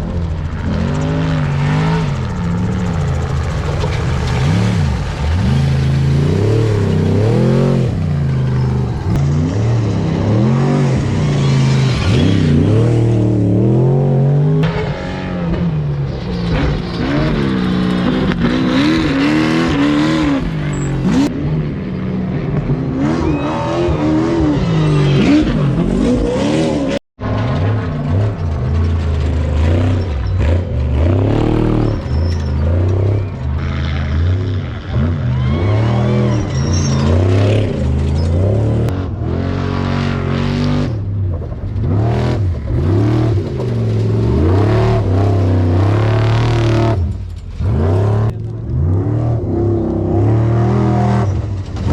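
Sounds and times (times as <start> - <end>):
truck engines revving hard: 0.0 - 51.9.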